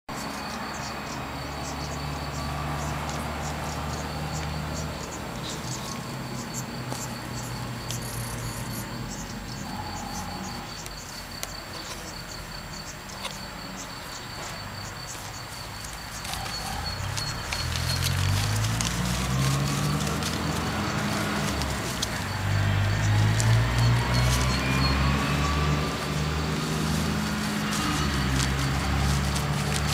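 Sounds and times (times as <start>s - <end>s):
insect chirping: 0.1s - 29.9s.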